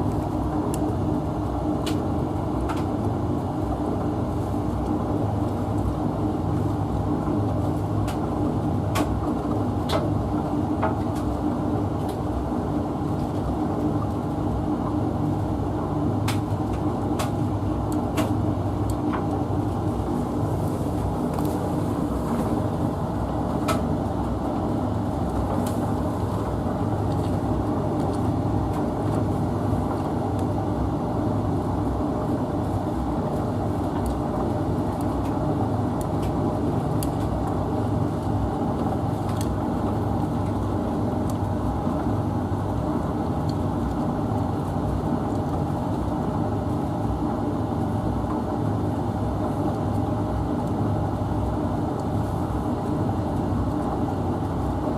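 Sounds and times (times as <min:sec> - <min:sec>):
washing machine and dryer humming: 0:00.0 - 0:54.9.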